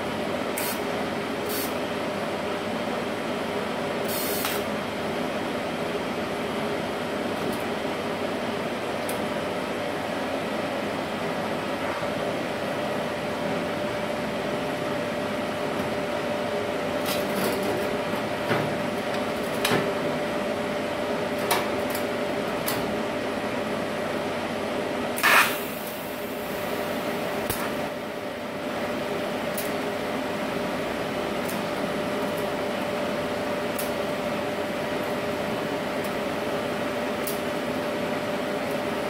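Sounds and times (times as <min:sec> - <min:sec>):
cooling fans humming: 0:00.0 - 0:39.0.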